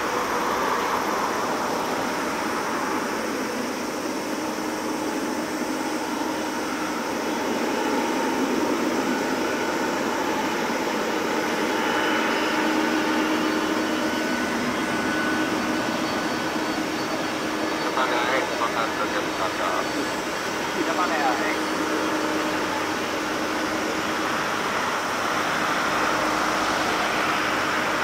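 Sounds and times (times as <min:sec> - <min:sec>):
jet engines at taxi power: 0:00.0 - 0:28.0.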